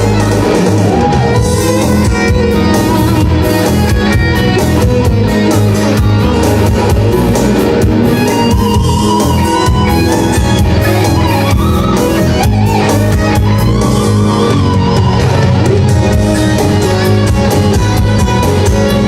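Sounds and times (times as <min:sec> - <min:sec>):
bass: 0:00.0 - 0:19.0
drums: 0:00.0 - 0:19.0
electric guitar lead: 0:00.0 - 0:19.0.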